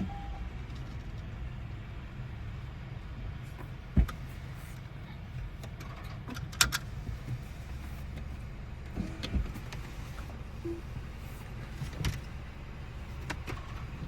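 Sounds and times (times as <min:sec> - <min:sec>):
car wash rumble: 0:00.0 - 0:14.0.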